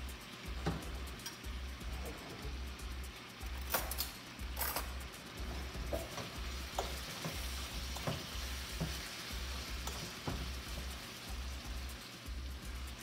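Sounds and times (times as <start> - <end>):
meat and onions sizzling in a pan: 0.0 - 3.6, 4.2 - 13.0.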